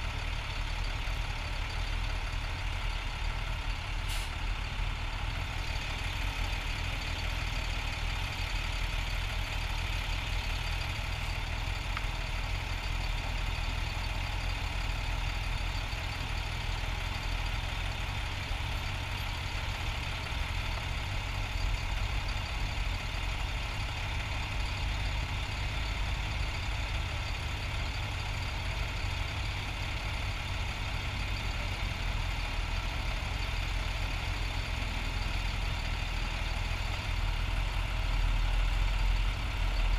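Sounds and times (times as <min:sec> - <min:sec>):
traffic noise: 0:00.0 - 0:39.9.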